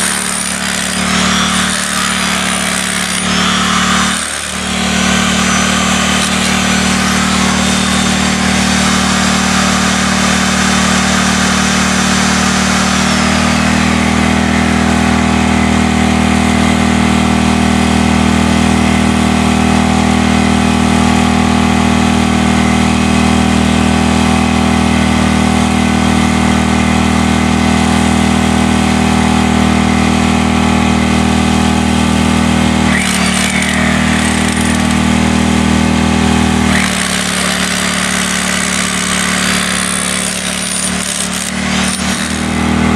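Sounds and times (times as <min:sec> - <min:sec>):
hammer drill on concrete: 0:00.0 - 0:28.2, 0:29.2 - 0:42.9.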